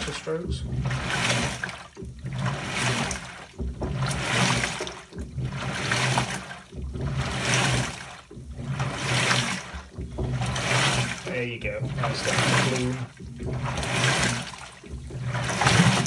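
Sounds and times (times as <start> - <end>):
low motor hum: 0.0 - 16.0
water sloshing in washing machine: 0.0 - 16.0.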